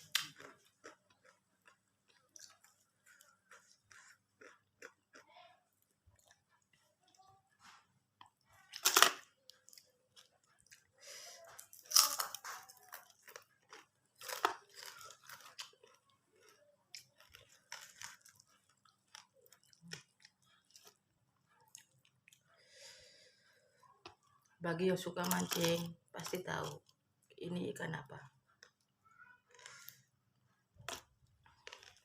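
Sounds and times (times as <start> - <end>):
crunching of crisp food: 0.0 - 23.0, 25.2 - 27.0, 28.5 - 32.0.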